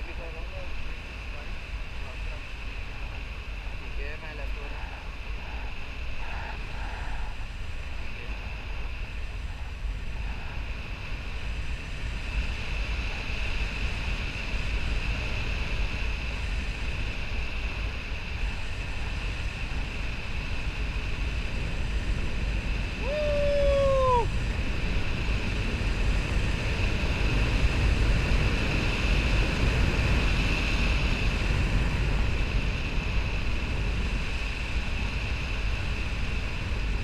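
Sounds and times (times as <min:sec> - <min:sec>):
wind buffeting the microphone: 0:00.0 - 0:37.0.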